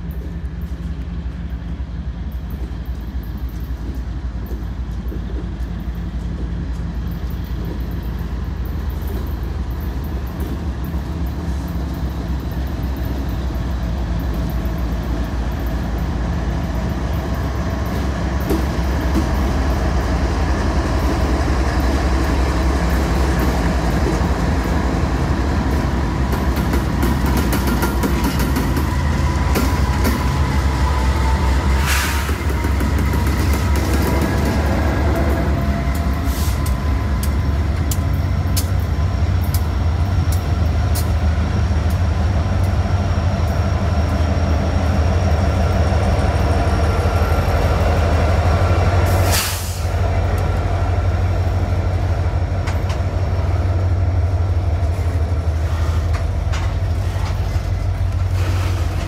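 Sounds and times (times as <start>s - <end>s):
diesel locomotive engine hum: 0.0s - 59.0s
train rumbling on rails: 0.0s - 59.0s.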